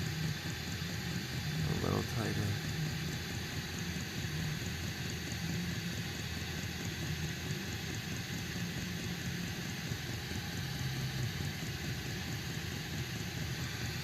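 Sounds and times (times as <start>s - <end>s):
diesel air heater running: 0.0s - 14.0s.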